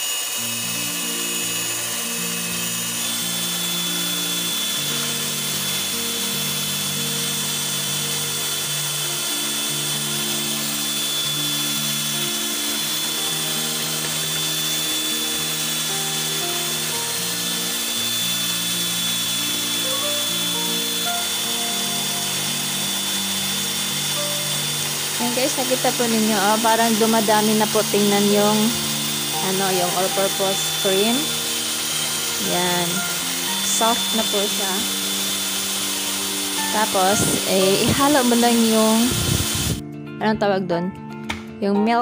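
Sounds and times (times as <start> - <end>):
electric mixer motor whine: 0.0 - 39.8
background music: 0.4 - 42.0.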